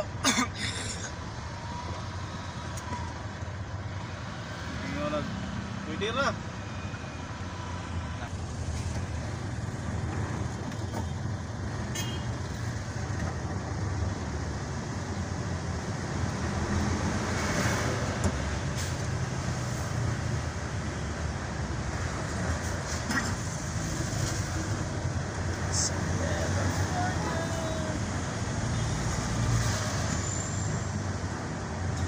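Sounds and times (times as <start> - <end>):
engine and road hum: 0.0 - 32.0
surrounding trucks and cars: 0.0 - 32.0.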